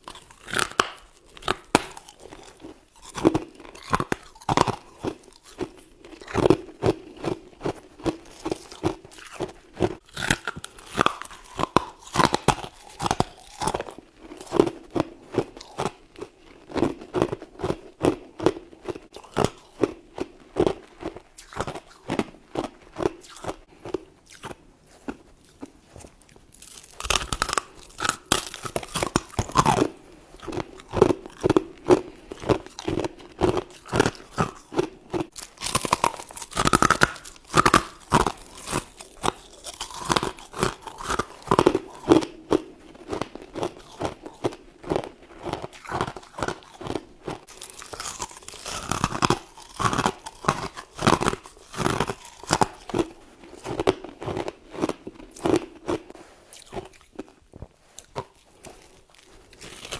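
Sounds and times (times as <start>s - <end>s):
person chewing crunchy frost: 0.0s - 59.9s.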